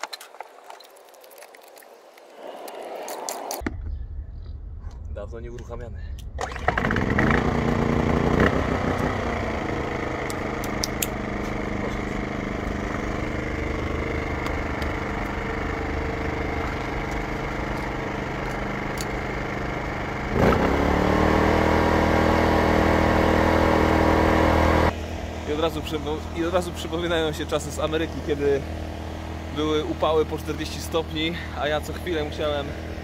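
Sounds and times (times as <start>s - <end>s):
portable generator running: 6.2s - 33.0s.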